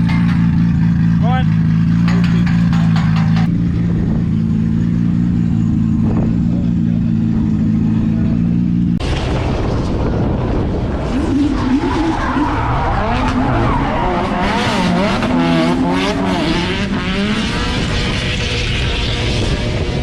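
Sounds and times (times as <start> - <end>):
tyres skidding: 0.0 - 9.0, 10.6 - 20.0
car engine revving: 0.0 - 20.0
steady engine drone: 0.0 - 20.0.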